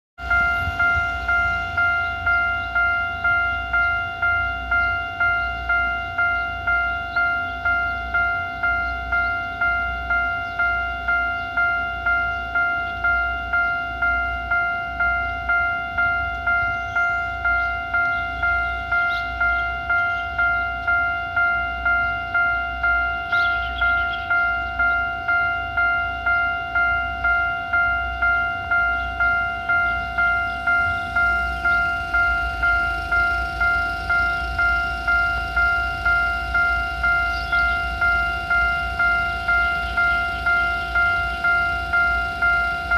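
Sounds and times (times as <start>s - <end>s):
level crossing warning bell: 0.2s - 42.9s.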